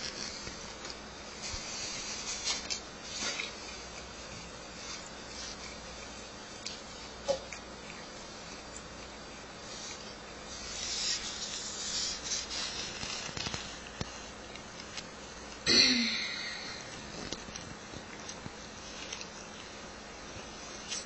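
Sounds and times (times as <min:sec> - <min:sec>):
dog licking and nibbling: 0:00.0 - 0:15.6, 0:17.0 - 0:19.8.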